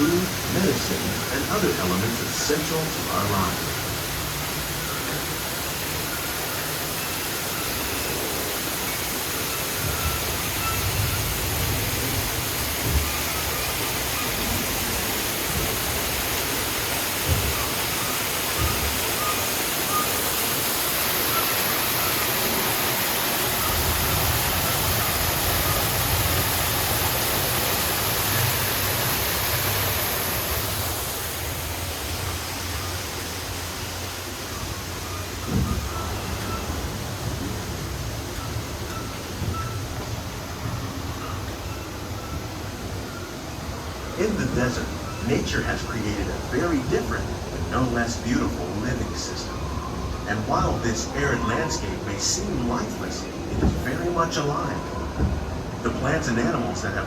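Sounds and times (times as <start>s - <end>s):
falling water hiss: 0.0s - 57.0s.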